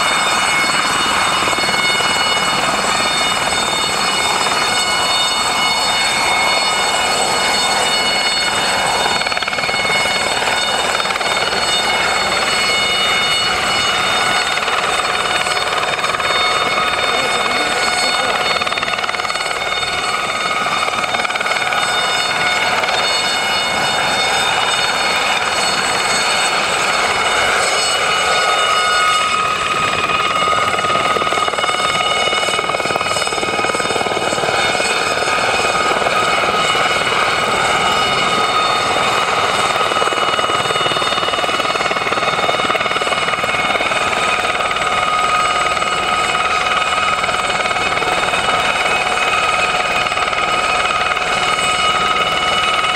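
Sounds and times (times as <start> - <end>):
helicopter engine whine: 0.0 - 52.9
helicopter main rotor beating: 0.0 - 52.9.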